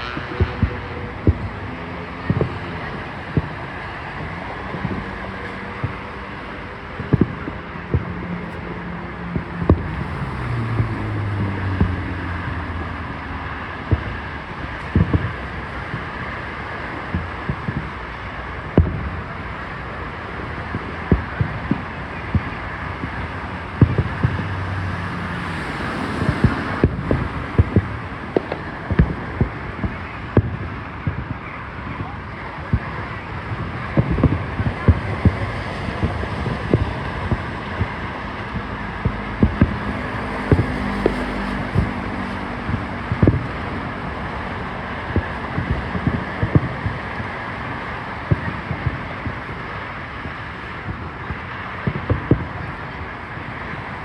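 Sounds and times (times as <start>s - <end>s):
crowd background noise: 0.0s - 54.0s
distant fireworks bangs: 0.0s - 54.0s.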